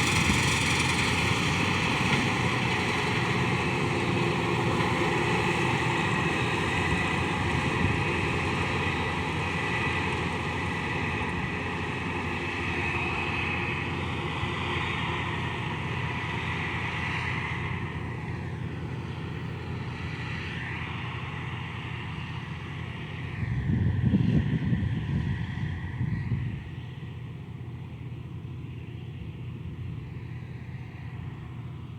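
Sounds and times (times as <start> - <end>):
combine harvester drone with whine: 0.0 - 31.9.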